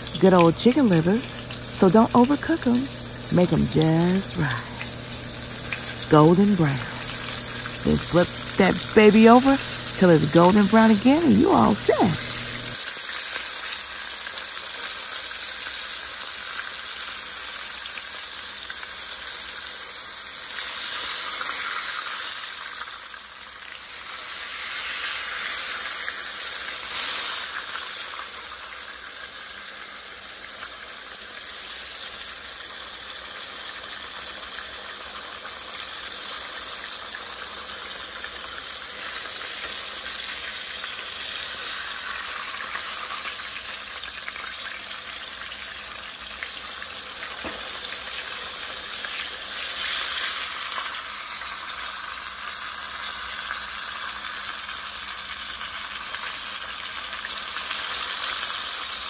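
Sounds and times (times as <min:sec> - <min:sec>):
meat deep frying in oil: 0:00.0 - 0:59.0.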